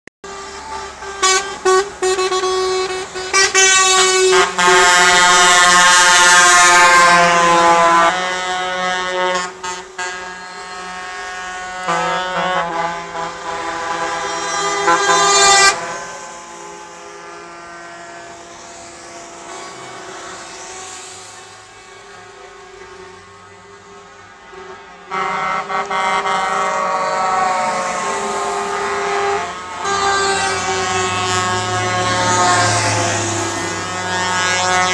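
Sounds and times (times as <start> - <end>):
truck air horn blasts: 0.2 - 34.9.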